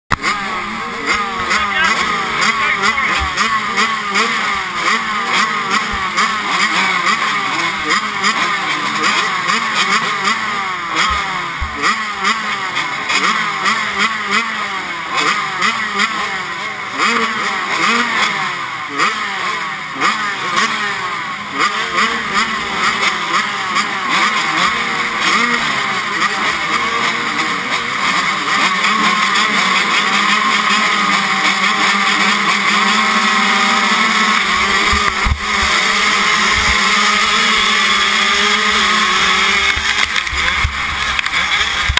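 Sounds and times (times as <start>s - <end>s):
motocross bikes revving: 0.1s - 41.9s.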